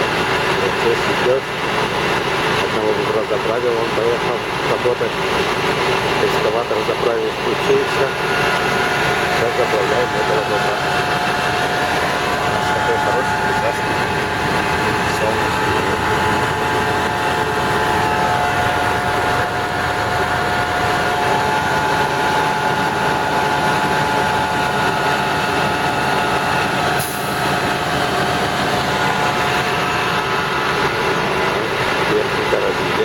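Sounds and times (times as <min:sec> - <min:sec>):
diesel truck engine running: 0:00.0 - 0:33.0
mechanical whine: 0:00.0 - 0:33.0.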